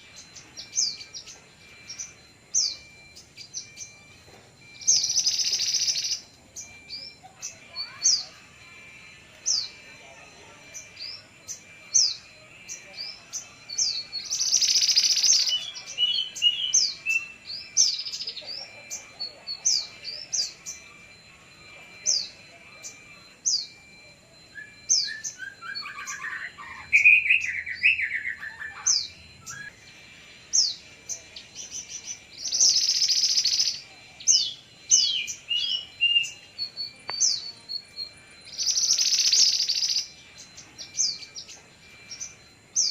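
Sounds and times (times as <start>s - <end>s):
bird chirping: 0.0s - 42.9s
harsh bird calls: 0.0s - 42.9s.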